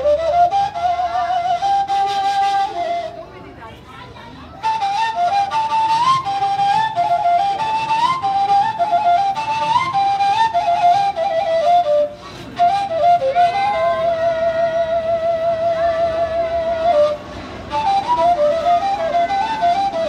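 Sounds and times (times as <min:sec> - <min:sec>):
flute melody: 0:00.0 - 0:03.8, 0:04.5 - 0:20.0.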